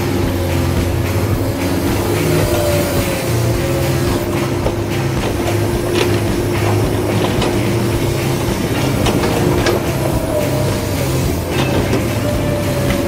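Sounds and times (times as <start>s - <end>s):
toy excavator motors whirring: 0.0s - 13.0s.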